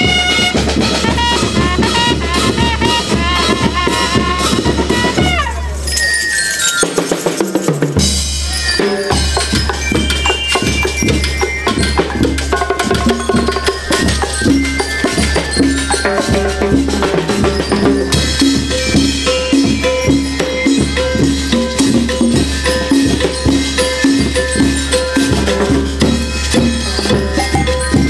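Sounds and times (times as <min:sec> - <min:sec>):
rhythm band playing dance music: 0:00.0 - 0:28.0.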